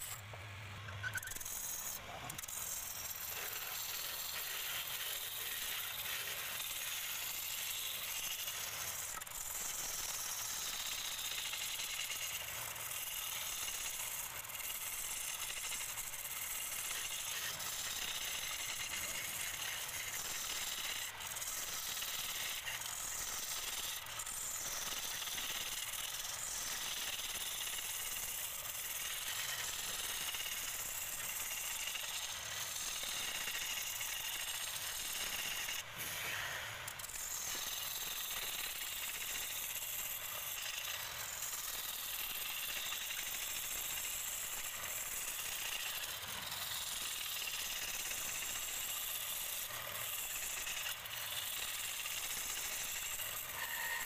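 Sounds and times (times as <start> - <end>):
lathe tool scraping wood: 1.0 - 45.0, 50.2 - 54.0.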